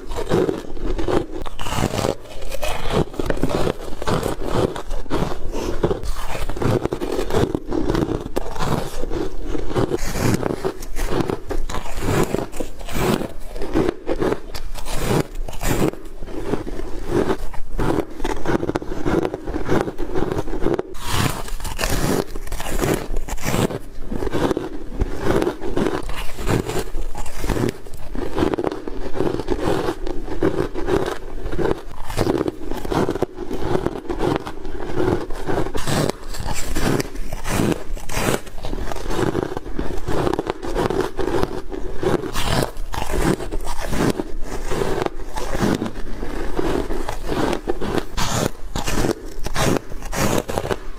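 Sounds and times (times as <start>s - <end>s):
ice crunching bites: 0.0s - 50.9s.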